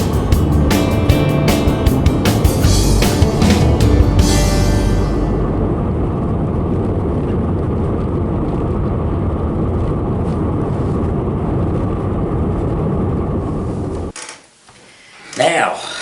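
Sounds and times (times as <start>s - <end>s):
car road and engine noise: 0.0s - 13.6s.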